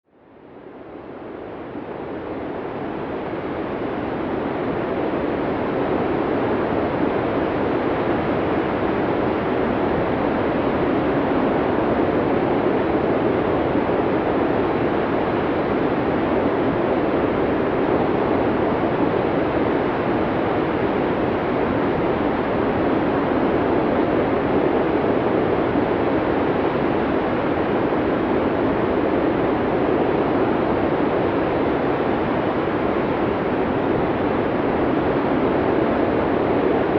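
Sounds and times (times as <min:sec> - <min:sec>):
blizzard wind rushing: 0:01.0 - 0:36.9.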